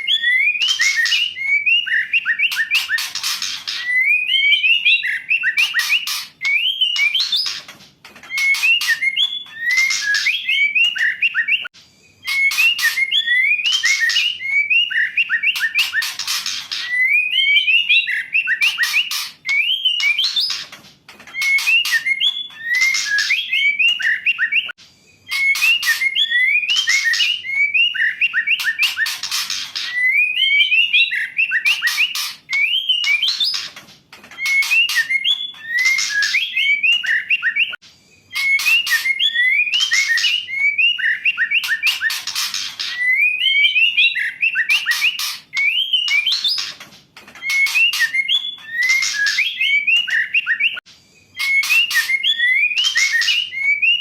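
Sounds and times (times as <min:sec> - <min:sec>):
bird whistling and rattling calls: 0:00.0 - 0:54.0.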